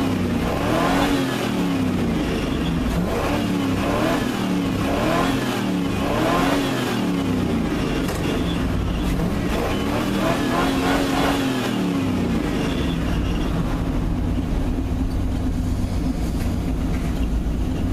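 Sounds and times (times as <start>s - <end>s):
pickup truck engine revving: 0.0s - 17.9s.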